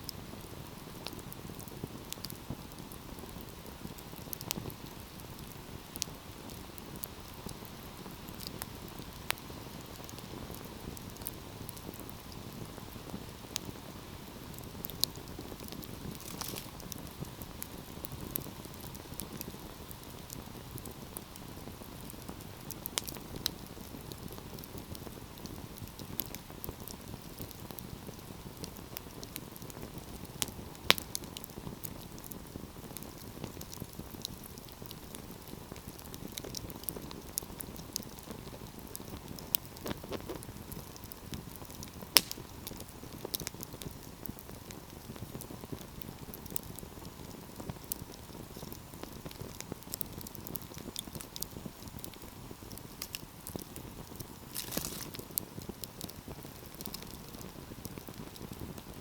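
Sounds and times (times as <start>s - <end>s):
fire crackles and pops: 0.0s - 59.0s
wood fire low rush: 0.0s - 59.0s.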